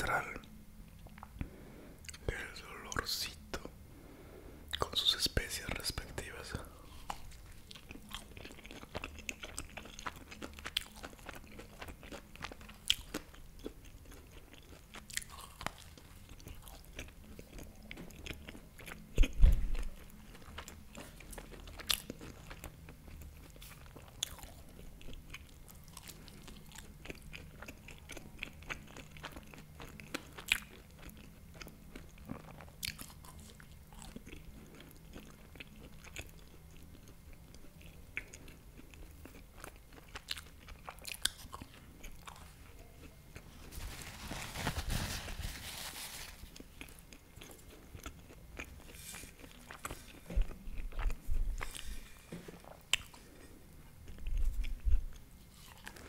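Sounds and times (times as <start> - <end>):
biting and chewing pastry: 6.9 - 56.0.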